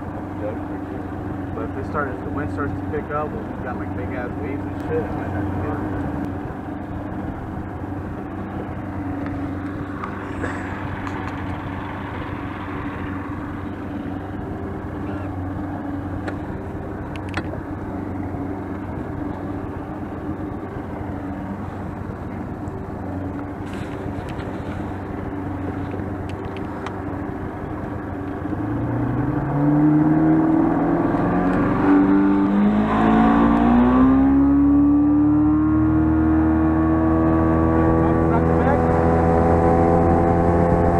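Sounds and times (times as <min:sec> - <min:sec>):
boat motor running: 0:00.0 - 0:40.9.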